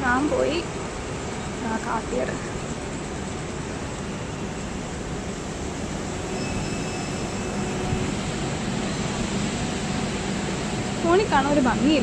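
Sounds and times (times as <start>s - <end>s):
city street rumble and hiss: 0.0s - 12.0s.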